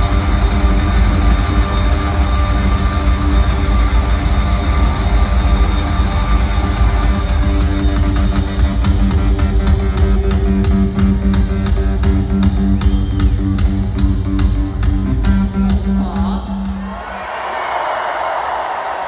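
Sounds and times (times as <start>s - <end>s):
rock band playing: 0.0s - 16.2s
steady drum beat: 0.0s - 17.0s.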